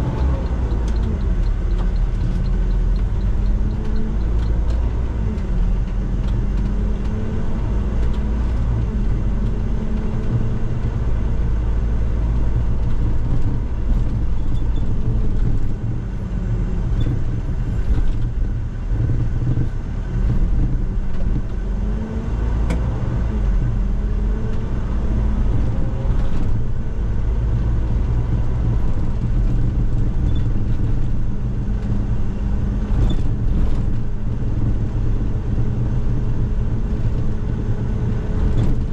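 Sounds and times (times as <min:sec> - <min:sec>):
bus engine under load: 0:00.0 - 0:38.9
road rumble: 0:00.0 - 0:38.9.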